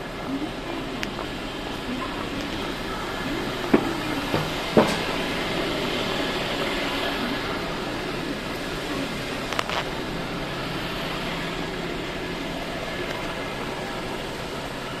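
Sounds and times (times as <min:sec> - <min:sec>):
hum of vehicles: 0:00.0 - 0:15.0.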